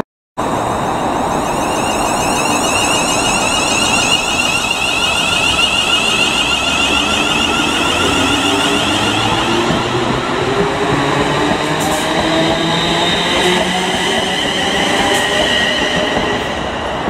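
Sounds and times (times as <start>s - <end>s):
train high whine: 0.4s - 17.0s
train wheels rumbling on rail: 0.4s - 17.0s.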